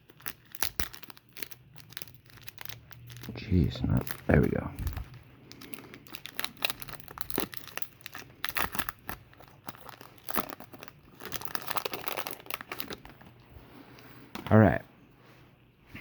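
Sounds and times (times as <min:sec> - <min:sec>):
wrapper crinkling: 0:00.0 - 0:13.5.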